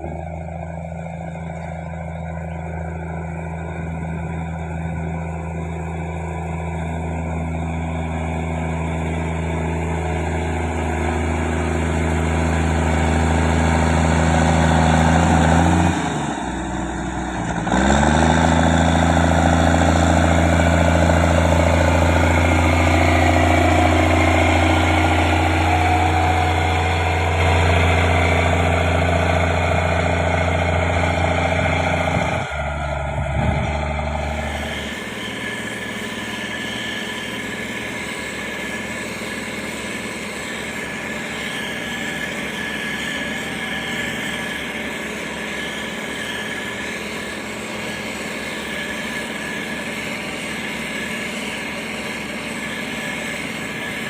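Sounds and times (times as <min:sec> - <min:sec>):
diesel engine of heavy machine: 0:00.0 - 0:54.0.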